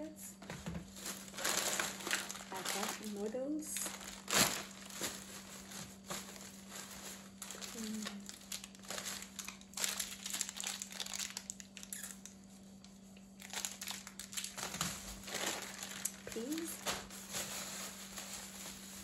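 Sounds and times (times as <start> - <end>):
plastic bags crinkling and rustling: 0.4 - 12.3, 13.4 - 19.0.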